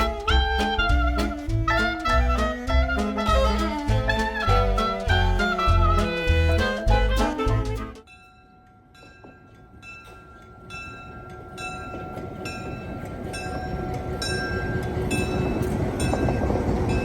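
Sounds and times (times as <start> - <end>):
train rumble: 0.0 - 8.0, 9.0 - 17.0.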